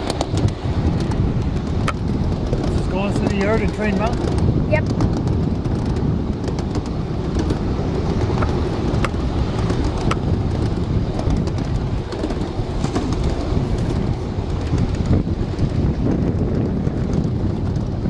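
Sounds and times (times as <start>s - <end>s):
miniature train rumbling on track: 0.0s - 18.0s
wind on microphone: 0.0s - 18.0s.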